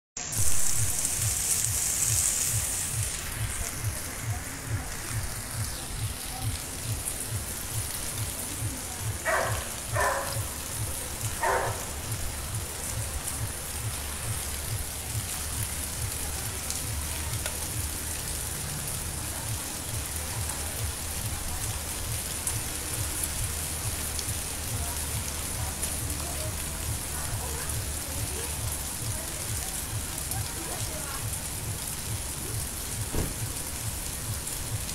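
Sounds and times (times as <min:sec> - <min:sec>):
rain falling on rooftops: 0:00.2 - 0:34.9.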